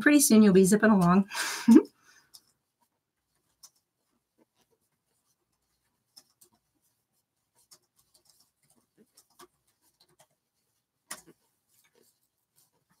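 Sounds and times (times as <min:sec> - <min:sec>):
crochet hook rustling yarn: 0:00.4 - 0:13.0.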